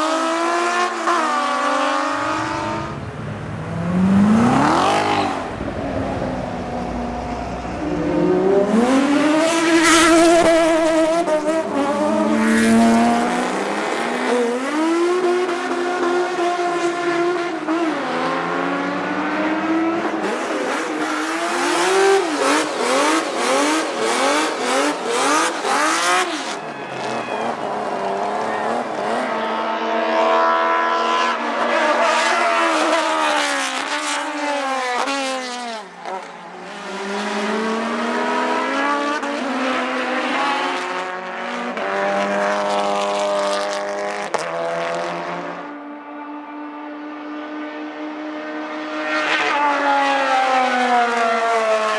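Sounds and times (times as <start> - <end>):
racing car engines revving: 0.0 - 51.9.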